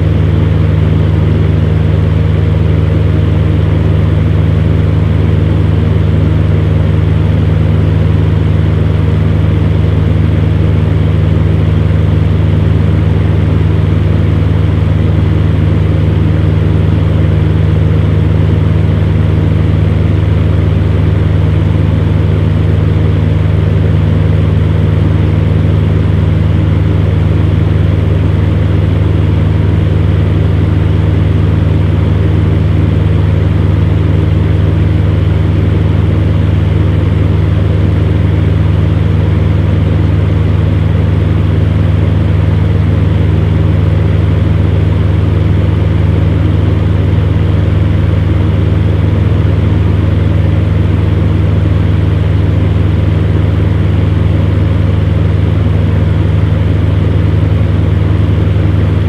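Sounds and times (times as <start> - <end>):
fan heater humming: 0.0 - 59.0.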